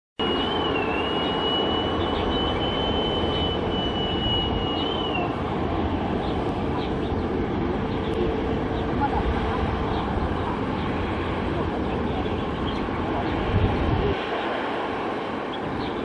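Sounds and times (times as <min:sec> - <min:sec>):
high engine whine: 0:00.2 - 0:16.0
jet engines idling: 0:00.2 - 0:16.0.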